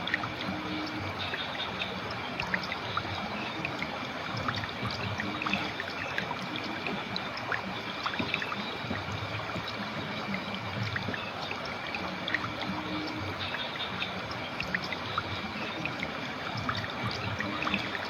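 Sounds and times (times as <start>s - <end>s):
river water burbling: 0.0s - 18.0s
water plinks: 0.0s - 18.0s.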